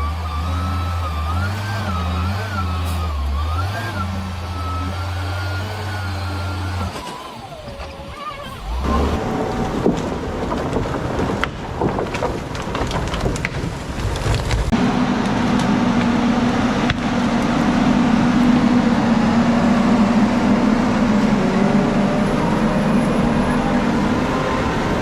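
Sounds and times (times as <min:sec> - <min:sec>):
heavy vehicle engine running: 0:00.0 - 0:13.2, 0:13.8 - 0:25.0.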